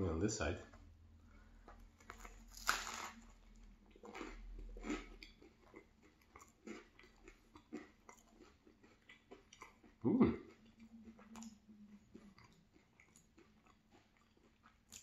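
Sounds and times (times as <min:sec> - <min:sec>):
close chewing with crunches: 0:00.7 - 0:15.0
bite crunch: 0:01.6 - 0:15.0.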